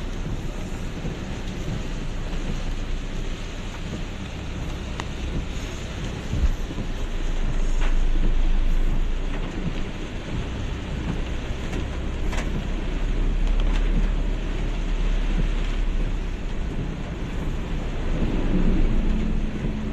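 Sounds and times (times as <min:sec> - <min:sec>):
floodwater rushing: 0:00.0 - 0:19.9
heavy rain: 0:00.0 - 0:19.9.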